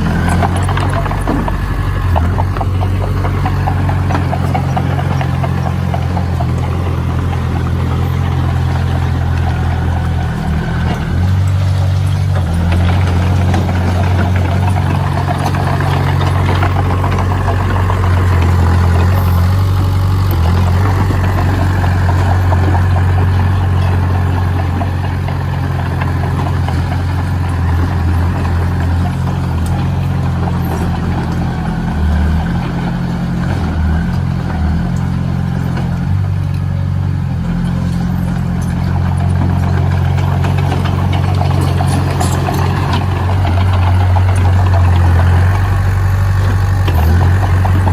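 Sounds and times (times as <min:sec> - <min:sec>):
construction machine diesel engine: 0:00.0 - 0:47.9.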